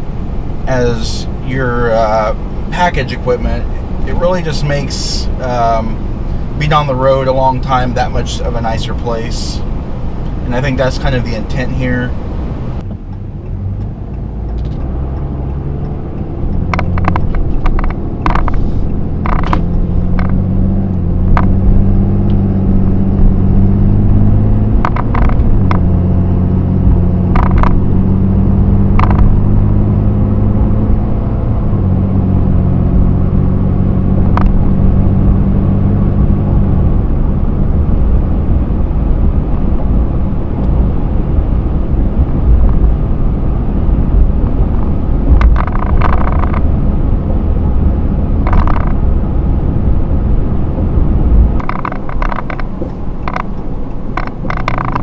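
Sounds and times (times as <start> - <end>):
diesel truck engine accelerating: 0.0 - 55.0.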